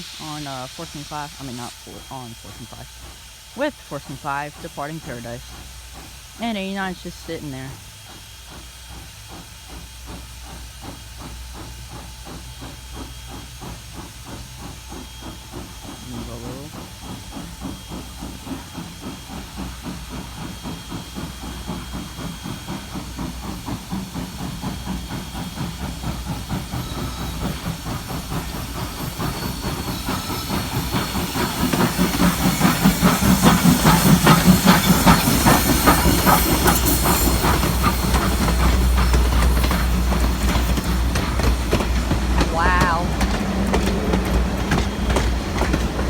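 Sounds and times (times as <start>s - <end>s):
steam hissing: 0.0s - 46.0s
steam locomotive exhaust chuffing: 0.0s - 46.0s.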